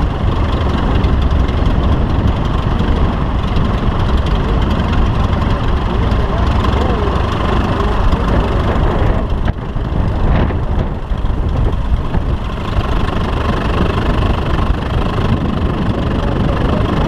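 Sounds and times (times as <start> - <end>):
engine rumbling steadily: 0.0 - 17.0.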